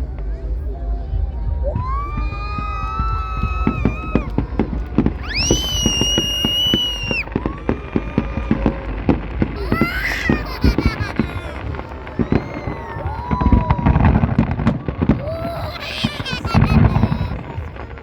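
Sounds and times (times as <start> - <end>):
fireworks bangs and pops: 0.0 - 18.0.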